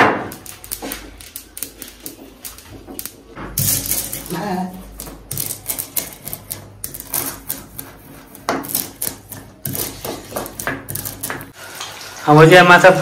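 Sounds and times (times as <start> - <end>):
stone crushing seeds on stone: 0.2 - 11.5.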